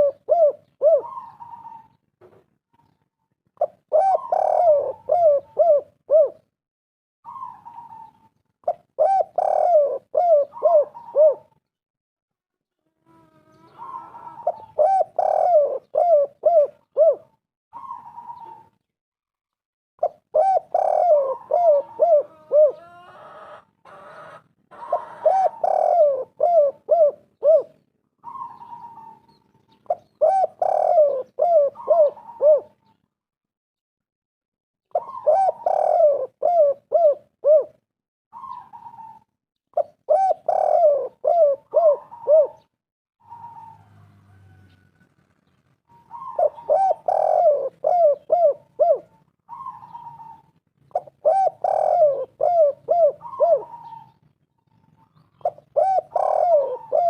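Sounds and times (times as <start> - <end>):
doves cooing: 0.0 - 6.5, 7.3 - 11.6, 12.7 - 18.8, 20.0 - 33.0, 34.9 - 45.1, 45.9 - 57.0.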